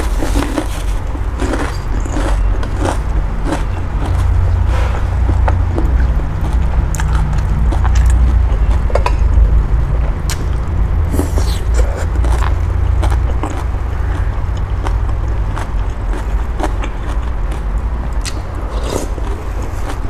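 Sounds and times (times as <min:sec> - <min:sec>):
person slurping and chewing: 0:00.0 - 0:09.3, 0:10.0 - 0:20.0
low rumble: 0:00.0 - 0:20.0.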